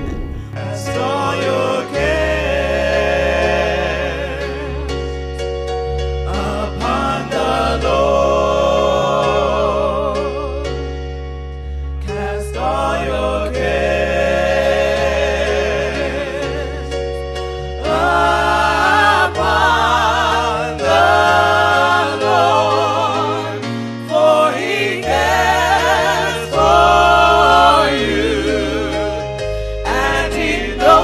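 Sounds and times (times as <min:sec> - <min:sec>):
gospel choir singing: 0:00.0 - 0:31.0
sustained bass notes: 0:00.0 - 0:31.0.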